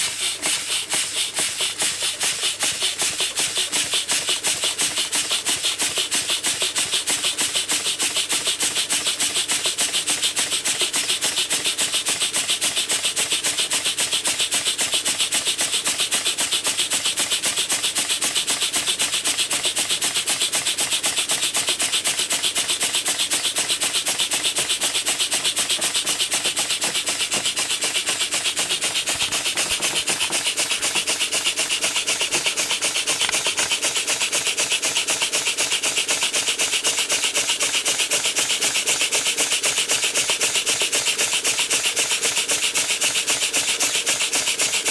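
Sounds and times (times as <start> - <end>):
toy steam engine running: 0.0 - 44.9.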